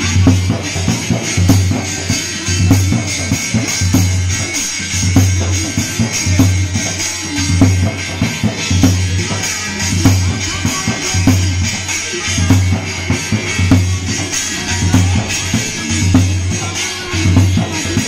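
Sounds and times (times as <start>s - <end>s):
drum beaten in dance rhythm: 0.0s - 18.0s
metal plate jangling like cymbal: 0.0s - 18.0s.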